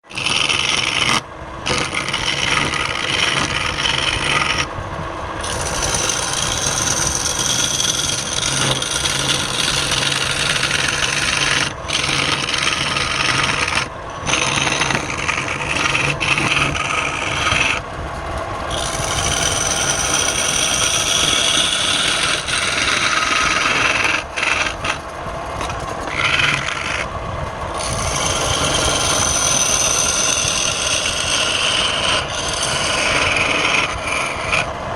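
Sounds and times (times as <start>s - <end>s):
lathe tool rasping wood: 0.0s - 4.8s, 5.4s - 17.9s, 18.5s - 34.9s.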